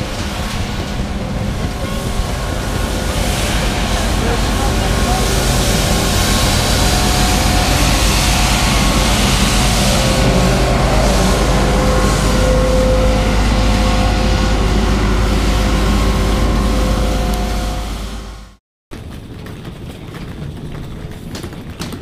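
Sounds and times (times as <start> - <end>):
steady whining tones: 0.0 - 18.6
street sweeper brush spinning: 0.0 - 18.6.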